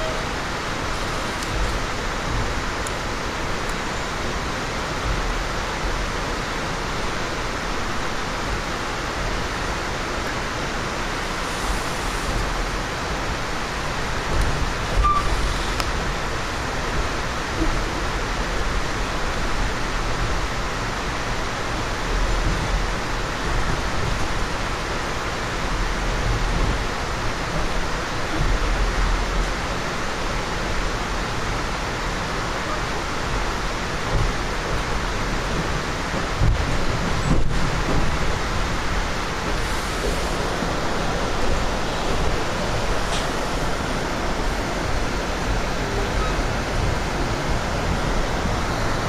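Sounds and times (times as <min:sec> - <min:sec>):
deep train rumbles: 0:00.0 - 0:49.0
train wheels on rails: 0:00.0 - 0:49.0
ventilation hiss: 0:00.0 - 0:49.0.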